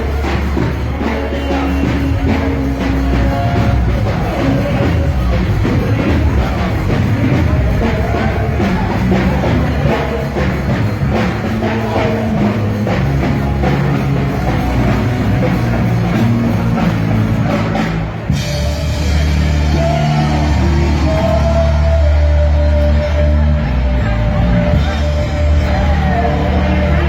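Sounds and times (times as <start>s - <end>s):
drum kit beating: 0.0s - 27.0s
rock band playing: 0.0s - 27.0s
sustained bass notes: 0.0s - 27.0s.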